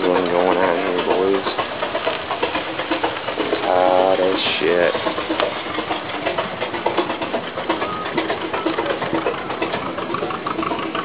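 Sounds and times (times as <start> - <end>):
steam engine ticking and clatter: 0.0 - 11.0.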